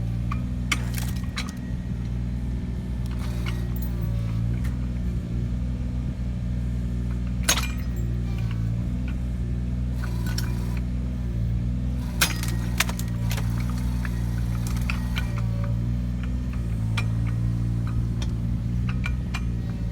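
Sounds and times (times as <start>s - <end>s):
excavator engine running: 0.0s - 19.9s.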